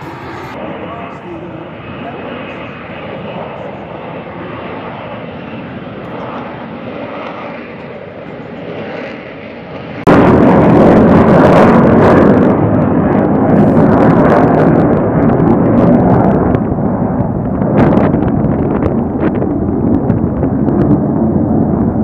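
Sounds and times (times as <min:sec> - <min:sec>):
jet engine rumble with crackling: 0:00.0 - 0:22.0.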